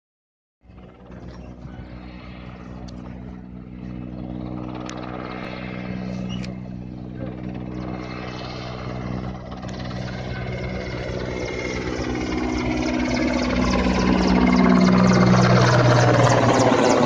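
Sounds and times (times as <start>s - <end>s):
helicopter rotors droning: 0.6s - 17.0s.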